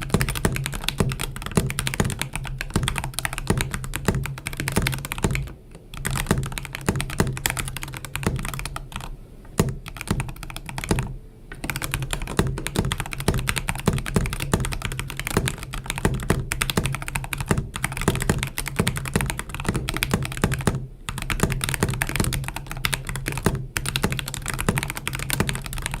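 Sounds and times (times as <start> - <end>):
mechanical keyboard typing: 0.0 - 26.0.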